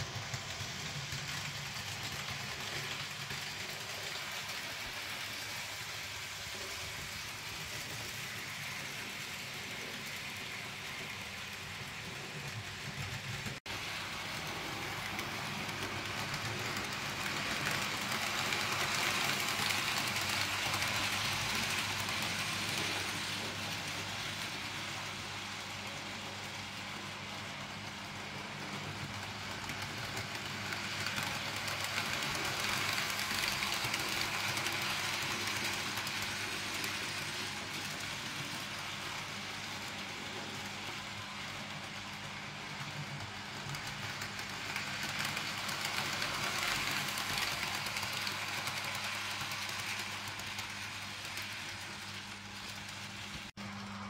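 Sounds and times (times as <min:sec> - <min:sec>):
model trains whirring on rails: 0:00.0 - 0:54.0.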